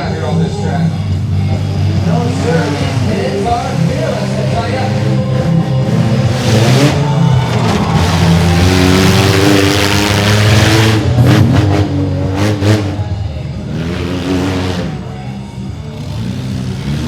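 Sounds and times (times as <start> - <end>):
small truck engine revving: 0.0 - 17.0.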